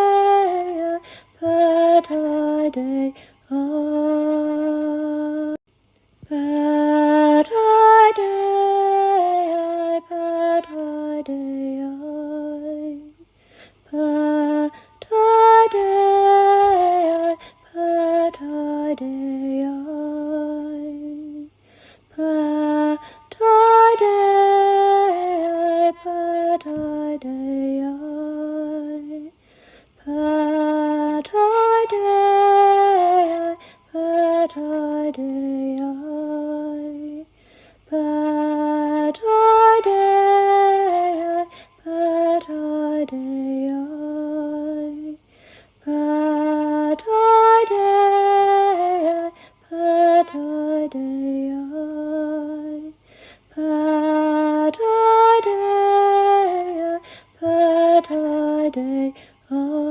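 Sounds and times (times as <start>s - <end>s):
woman singing chant-like song: 6.2s - 29.4s, 30.0s - 59.9s.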